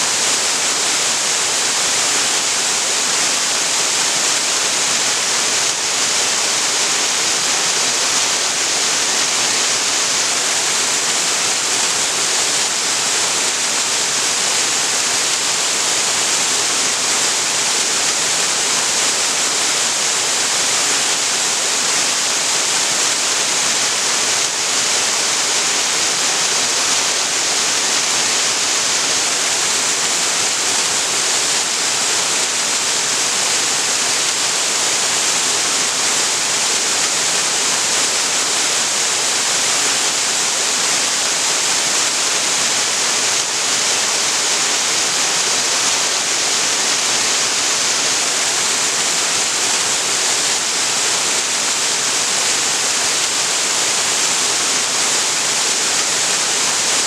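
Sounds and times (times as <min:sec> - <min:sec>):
waterfall splashing into a pool: 0:00.0 - 0:57.0.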